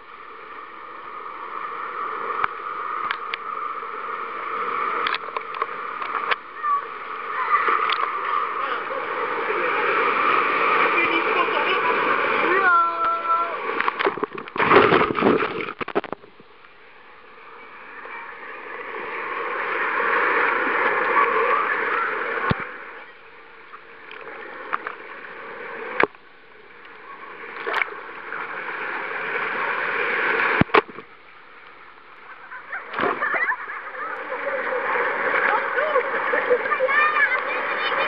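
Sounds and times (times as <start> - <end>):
water sloshing and gurgling: 0.0 - 38.0.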